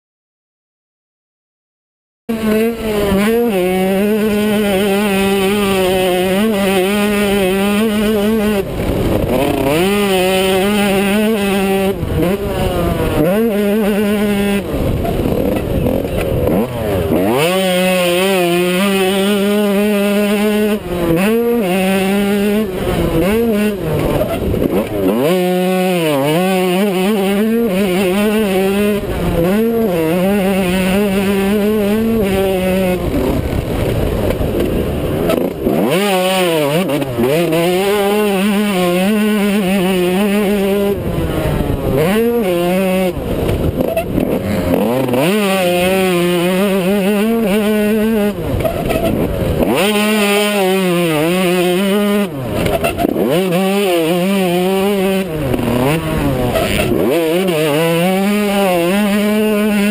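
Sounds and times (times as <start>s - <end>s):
dirt bike engine revving: 2.3s - 59.9s.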